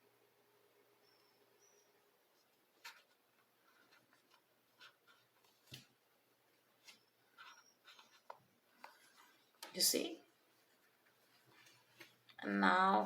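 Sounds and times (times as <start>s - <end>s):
faint clicks and rustles: 1.0s - 12.5s.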